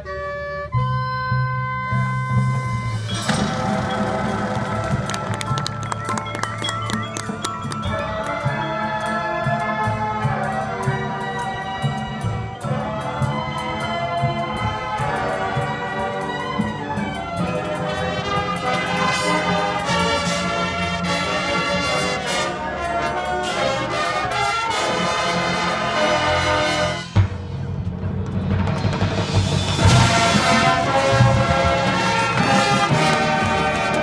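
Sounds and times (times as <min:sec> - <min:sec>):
marching band brass playing: 0:00.0 - 0:34.0
percussion strokes: 0:01.9 - 0:34.0.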